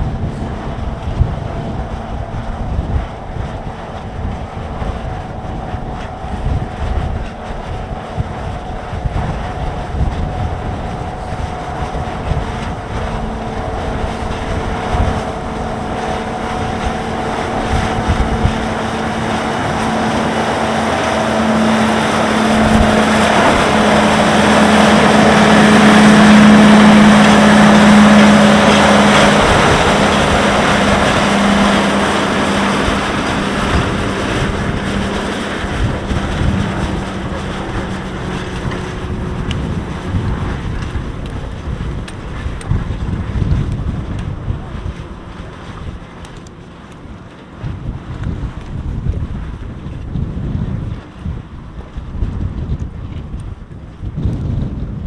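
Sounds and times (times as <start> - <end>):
locomotive diesel engine: 0.0 - 48.2
wind buffeting microphone: 0.0 - 55.0.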